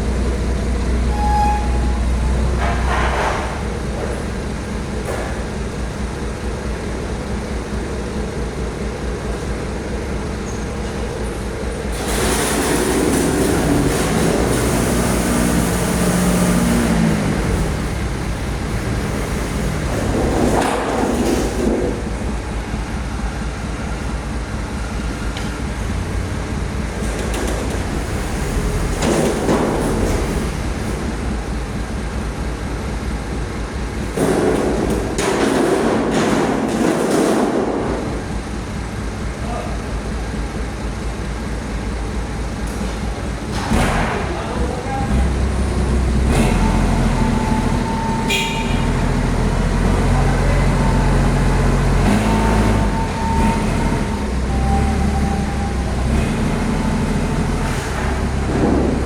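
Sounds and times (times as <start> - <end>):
heavy vehicle engine rumble: 0.0 - 59.0
road traffic: 0.0 - 59.0.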